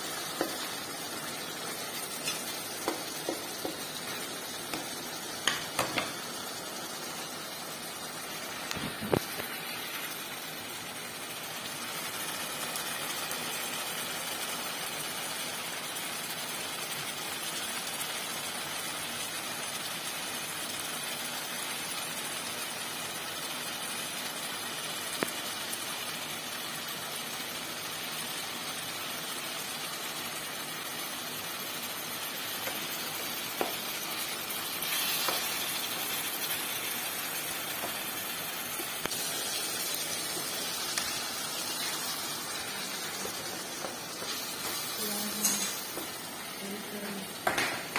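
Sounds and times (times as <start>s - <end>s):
vegetables sizzling in a pot: 0.0s - 47.9s.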